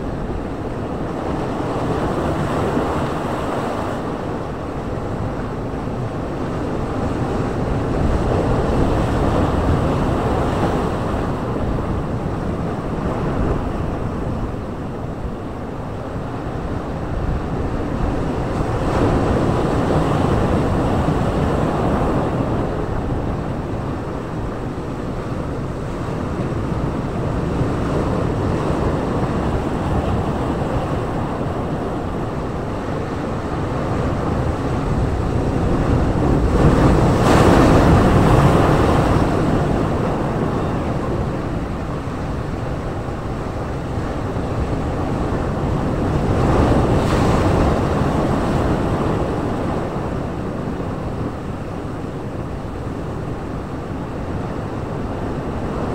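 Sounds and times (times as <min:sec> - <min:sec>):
sea surf breaking over rocks: 0:00.0 - 0:55.9.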